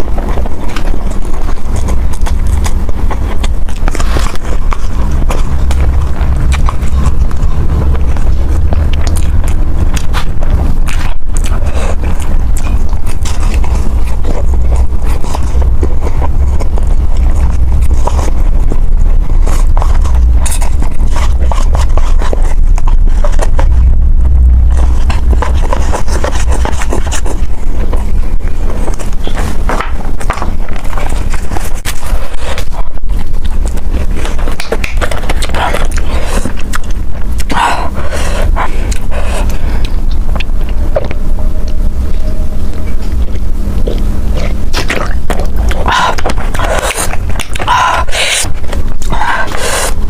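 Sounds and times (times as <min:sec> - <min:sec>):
chewing with wet clicks: 0:00.0 - 0:23.9, 0:24.8 - 0:50.0
low rumble: 0:00.0 - 0:50.0.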